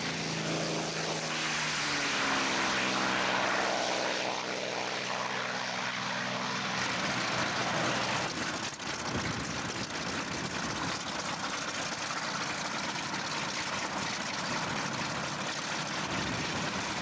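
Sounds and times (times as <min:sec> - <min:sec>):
propeller plane piston engine: 0:00.0 - 0:17.0.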